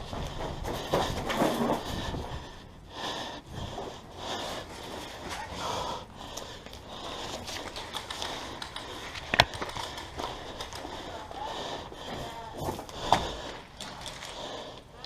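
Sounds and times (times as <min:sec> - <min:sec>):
person breathing: 0:00.0 - 0:15.0.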